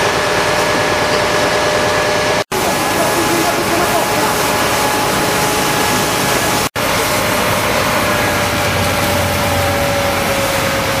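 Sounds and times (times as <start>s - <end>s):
fire engine running: 0.0s - 11.0s.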